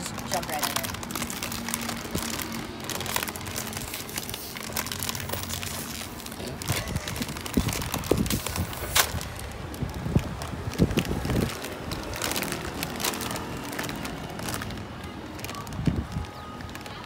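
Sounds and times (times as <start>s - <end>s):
potato chip bag crinkling: 0.0s - 17.0s.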